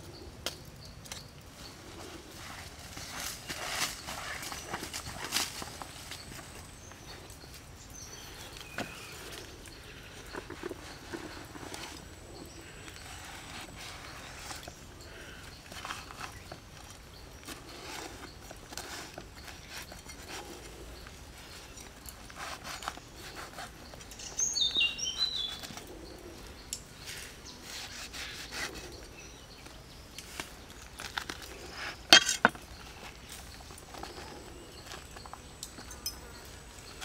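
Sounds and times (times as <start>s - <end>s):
bird chirp: 0.0s - 37.0s.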